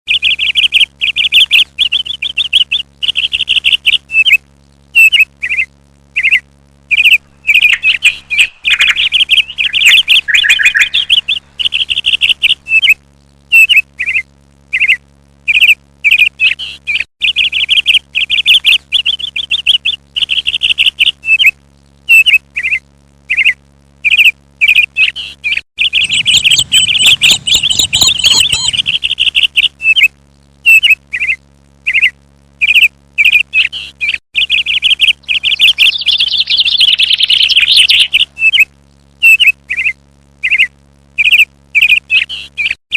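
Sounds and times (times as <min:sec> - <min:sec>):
small birds chirping: 0:00.1 - 0:42.8.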